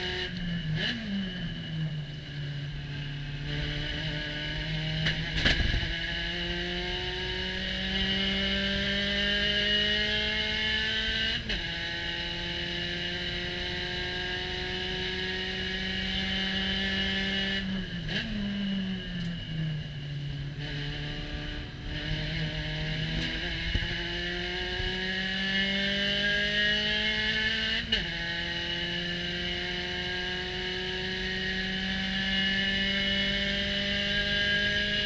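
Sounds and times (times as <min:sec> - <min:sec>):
race car engine at full throttle: 0:00.0 - 0:35.0.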